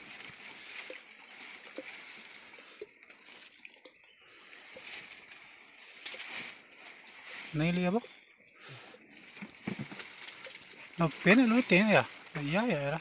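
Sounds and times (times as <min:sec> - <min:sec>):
reeds and leaves rustling: 0:00.0 - 0:13.0.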